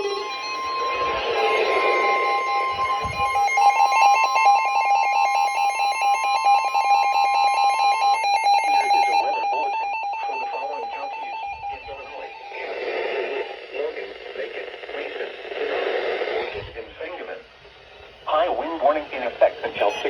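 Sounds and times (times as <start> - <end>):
steady warning alarm tone: 0.0 - 20.0.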